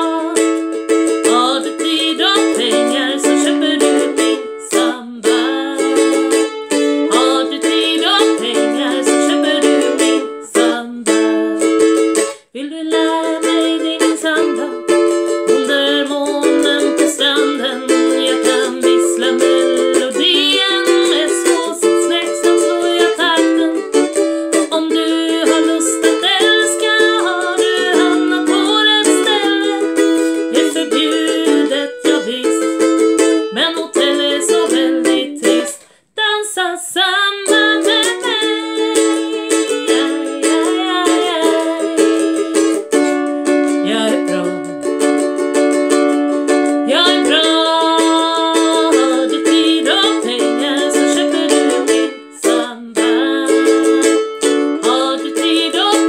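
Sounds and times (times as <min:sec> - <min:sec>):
ukulele strumming: 0:00.0 - 0:56.0
woman singing: 0:00.0 - 0:56.0.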